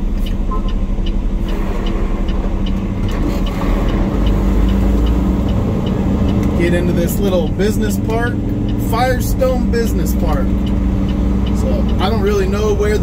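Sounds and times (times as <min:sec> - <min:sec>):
truck diesel engine running: 0:00.0 - 0:13.0
turn signal ticking: 0:00.0 - 0:13.0.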